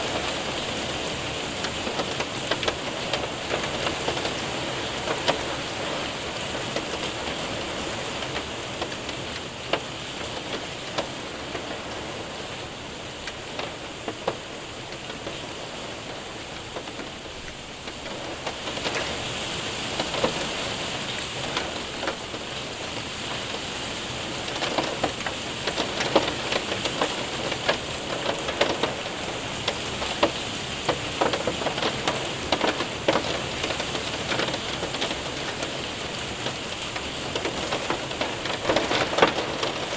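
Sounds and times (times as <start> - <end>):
hailstones ticking on window: 0.0 - 39.9
rain hissing: 0.0 - 39.9.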